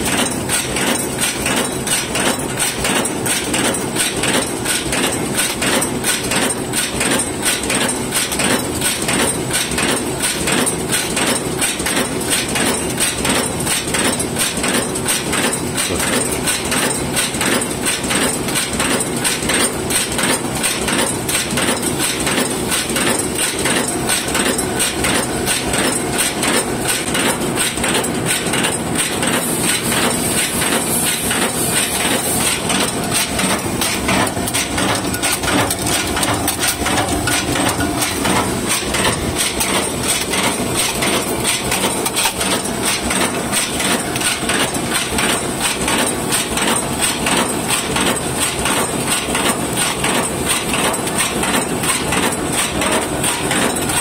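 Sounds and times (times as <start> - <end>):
machine metallic clatter: 0.0 - 54.0.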